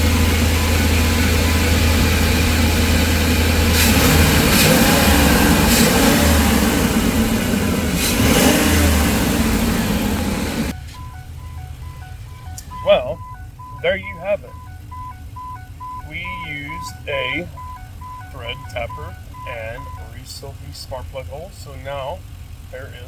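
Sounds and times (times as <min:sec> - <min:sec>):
van engine revving: 0:00.0 - 0:23.0.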